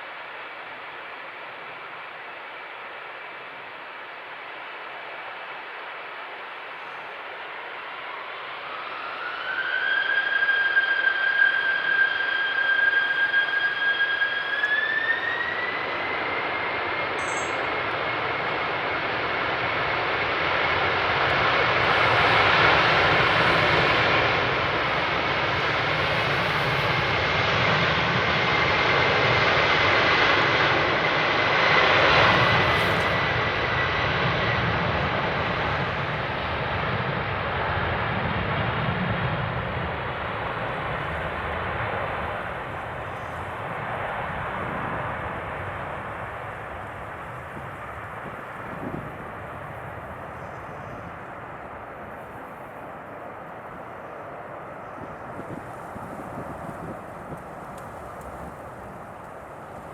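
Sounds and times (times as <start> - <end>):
jet engines spooling up: 6.5 - 59.9.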